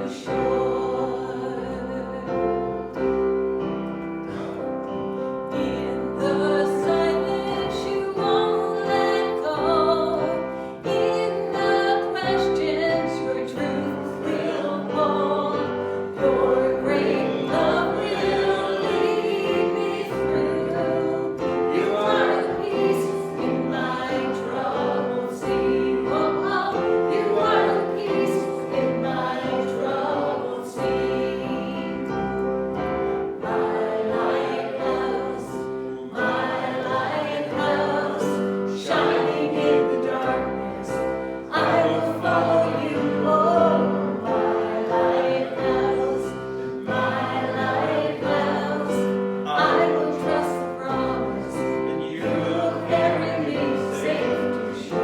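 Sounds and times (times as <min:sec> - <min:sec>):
congregation singing: 0:00.0 - 0:55.0
piano accompaniment: 0:00.0 - 0:55.0.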